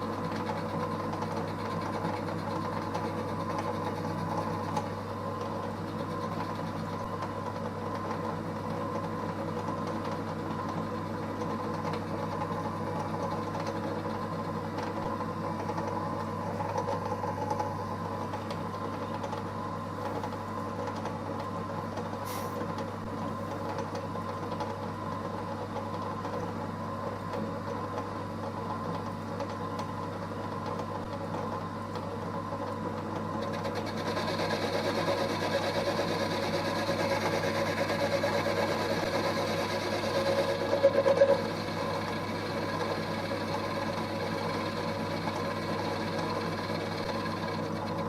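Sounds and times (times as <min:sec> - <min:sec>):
lathe motor hum and whine: 0:00.0 - 0:48.0.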